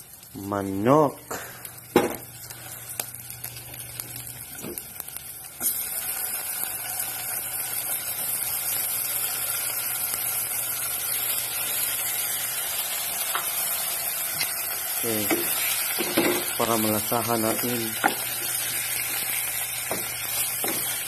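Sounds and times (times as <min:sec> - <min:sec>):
chicken sizzling in oil: 0:00.0 - 0:21.0
onion crackling in pan: 0:00.0 - 0:21.0.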